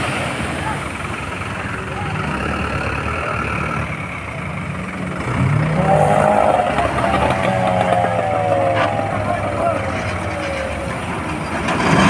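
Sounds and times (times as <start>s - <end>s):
boat engine revving: 0.0s - 12.0s
waves breaking: 0.0s - 12.0s.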